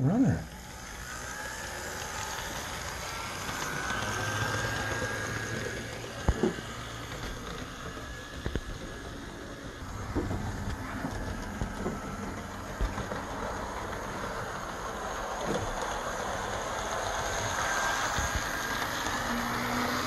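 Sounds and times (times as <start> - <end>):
model train motor hum: 0.0 - 20.0
wheels clicking over rails: 0.5 - 20.0.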